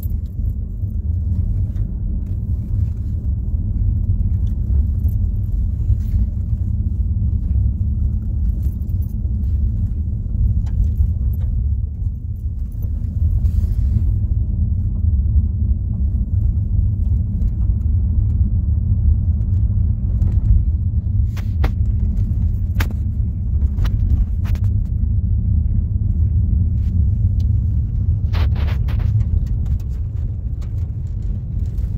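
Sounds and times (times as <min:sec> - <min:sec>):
car road rumble on gravel: 0:00.0 - 0:31.9.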